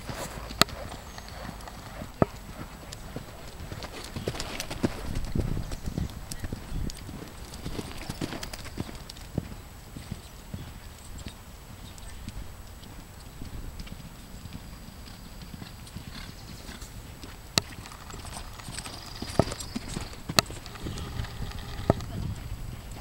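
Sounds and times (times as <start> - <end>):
horse hoofbeats on soft dirt: 0.0 - 23.0.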